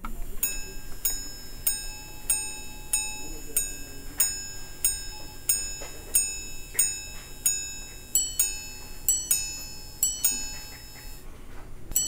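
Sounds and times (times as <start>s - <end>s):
watch gongs chiming: 0.0s - 12.0s.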